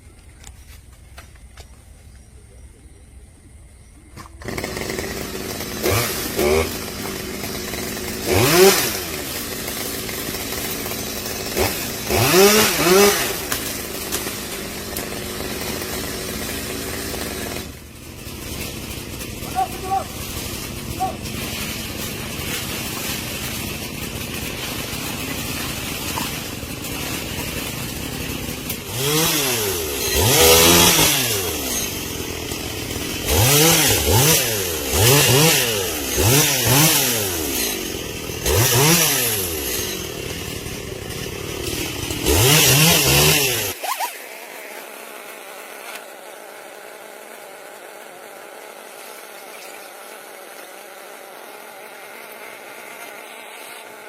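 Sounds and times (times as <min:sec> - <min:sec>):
chainsaw idling and revving: 0:04.1 - 0:54.0.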